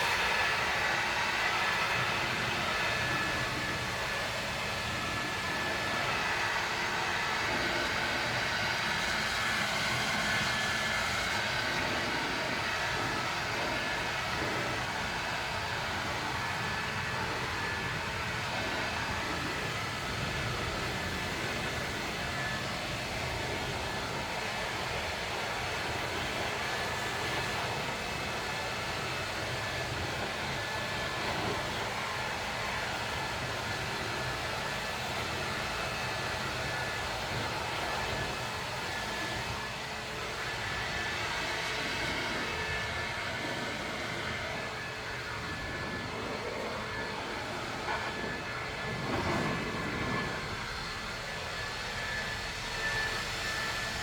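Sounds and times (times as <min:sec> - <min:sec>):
power washer motor whine: 0:00.0 - 0:54.0.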